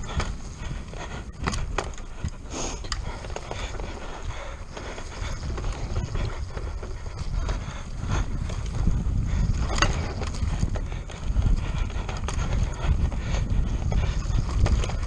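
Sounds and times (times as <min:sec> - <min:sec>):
bike knocking and rattling: 0:00.0 - 0:15.0
wind rumble on microphone: 0:00.0 - 0:15.0.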